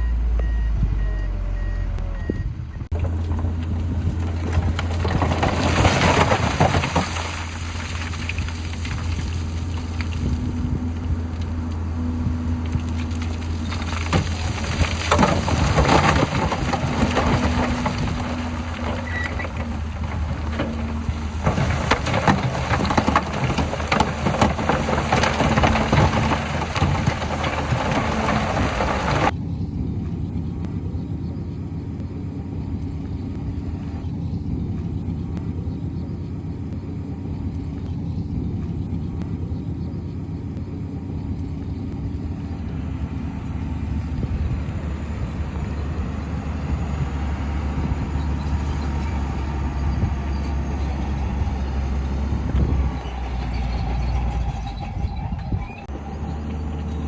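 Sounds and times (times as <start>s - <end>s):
diesel engine low rumble: 0.0s - 57.0s.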